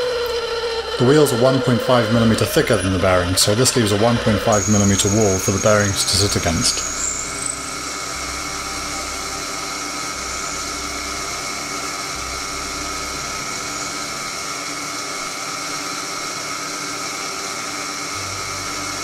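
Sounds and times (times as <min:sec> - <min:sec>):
hiss of metal cutting: 0:00.0 - 0:19.0
lathe motor whine: 0:00.0 - 0:19.0.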